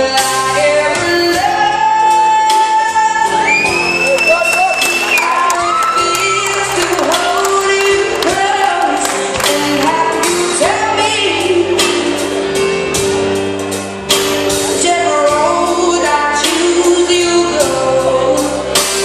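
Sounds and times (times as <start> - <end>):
loud music with singer and beat: 0.0 - 19.0.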